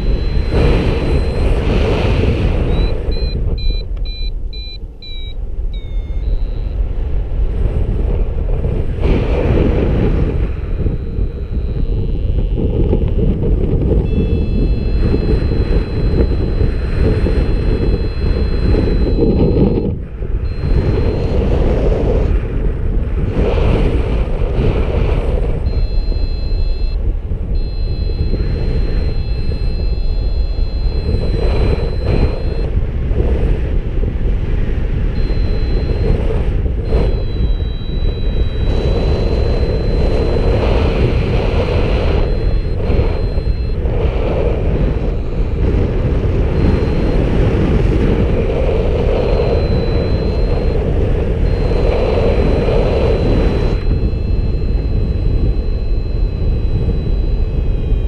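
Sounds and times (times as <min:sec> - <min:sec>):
variometer electronic beeps: 0:00.0 - 0:08.0, 0:08.6 - 0:58.0
strong wind buffeting microphone: 0:00.0 - 0:58.0.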